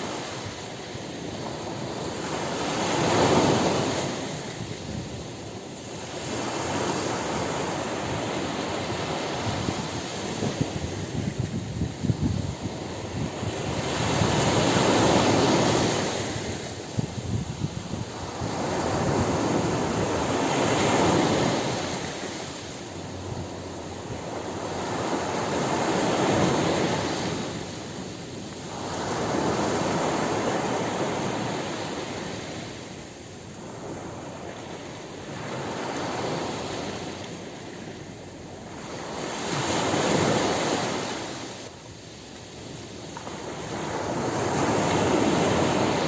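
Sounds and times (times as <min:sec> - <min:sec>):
ocean surf breaking: 0:00.0 - 0:41.7, 0:42.4 - 0:46.0.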